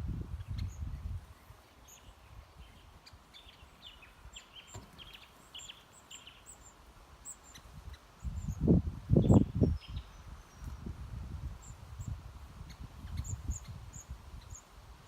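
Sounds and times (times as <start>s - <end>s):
small birds chirping: 0.1s - 14.8s.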